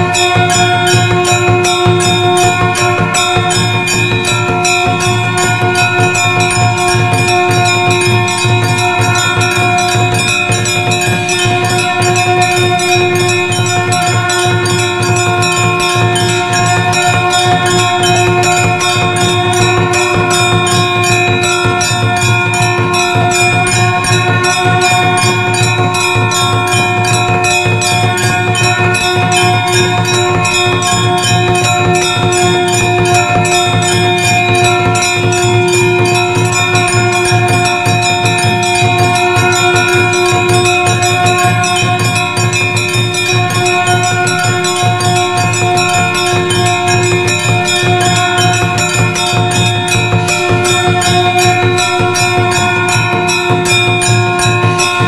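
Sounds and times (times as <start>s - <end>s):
temple bells rung rapidly: 0.0s - 55.0s.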